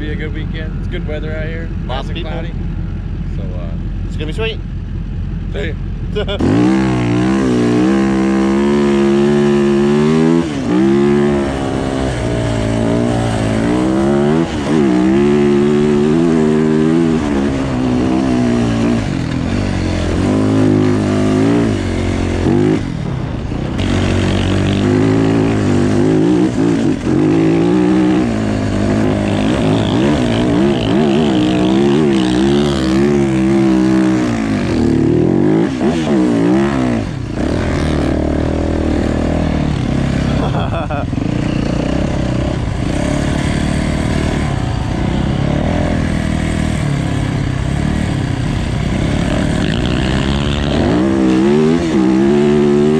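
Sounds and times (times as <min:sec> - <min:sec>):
off-road vehicle engine revving: 0:00.0 - 0:52.9.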